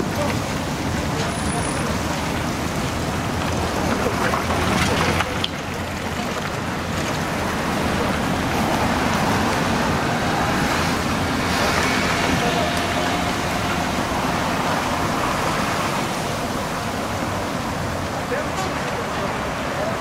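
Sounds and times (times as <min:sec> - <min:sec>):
cars driving past: 0:00.0 - 0:20.0
wind rushing over microphone: 0:02.1 - 0:18.3.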